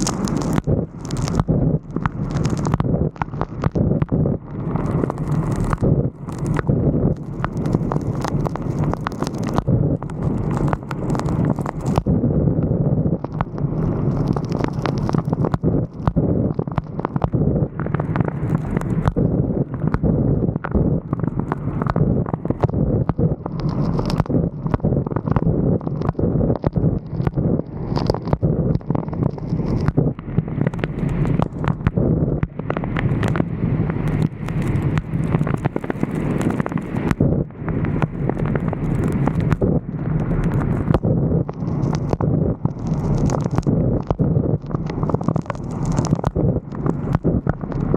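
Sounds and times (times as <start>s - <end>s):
road rumble: 0.0s - 47.9s
wind buffeting microphone: 0.0s - 47.9s.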